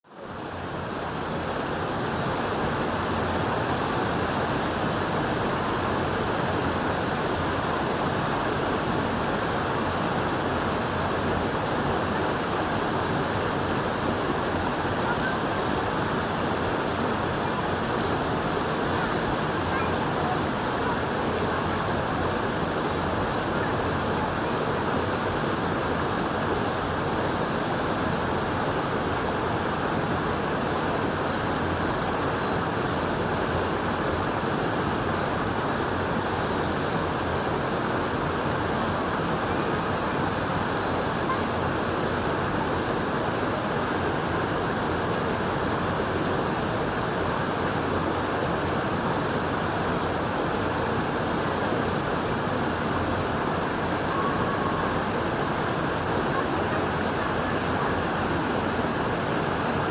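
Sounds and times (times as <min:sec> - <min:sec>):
running water rushing: 0:00.1 - 0:59.9.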